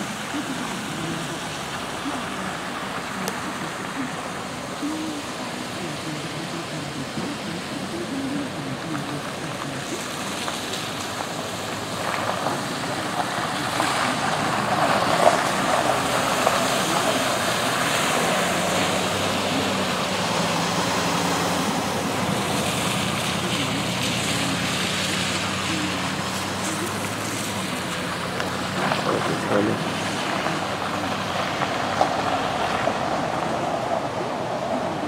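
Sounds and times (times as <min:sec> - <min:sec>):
low engine hum: 0:00.0 - 0:35.0
tyres swishing through water: 0:00.0 - 0:35.0.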